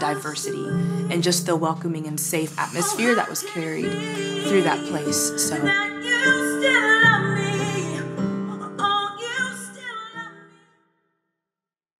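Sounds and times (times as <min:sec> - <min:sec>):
person singing: 0:00.0 - 0:01.8, 0:02.4 - 0:10.5
strummed acoustic guitar: 0:00.0 - 0:09.9.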